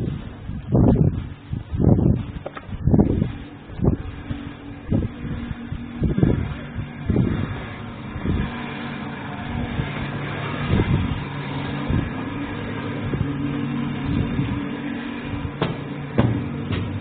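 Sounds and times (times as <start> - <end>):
gritty noise: 0.0 - 17.0.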